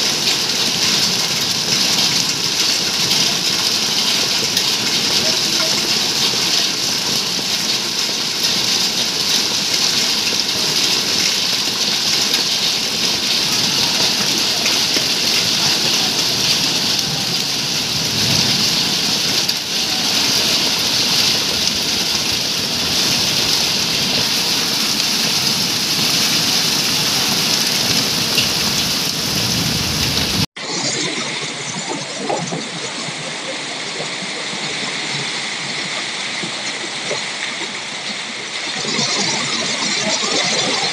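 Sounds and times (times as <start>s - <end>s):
heavy rain and hail pelting ground: 0.0s - 40.9s.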